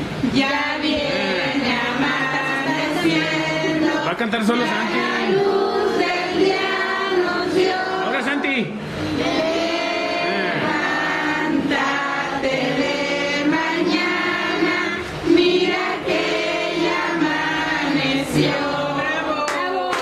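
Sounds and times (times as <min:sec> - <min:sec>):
children singing: 0:00.4 - 0:08.3, 0:09.1 - 0:20.0.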